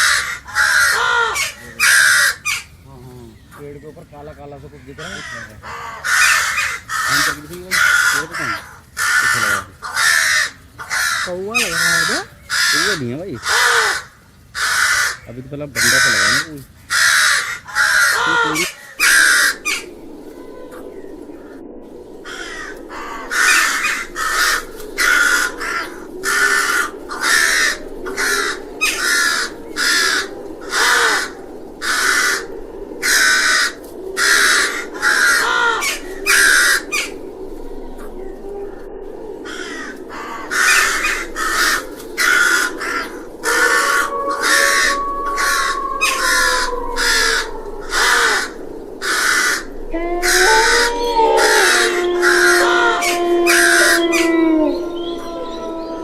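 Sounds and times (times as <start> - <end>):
crow cawing: 0.0 - 2.8, 4.4 - 20.1, 22.2 - 56.0.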